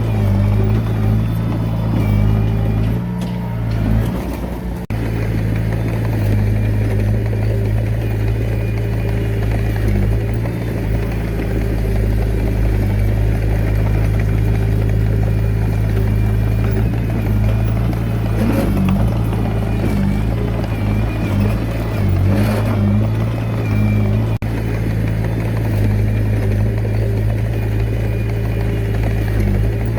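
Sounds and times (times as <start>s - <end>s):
heavy diesel engine droning: 0.0s - 29.9s.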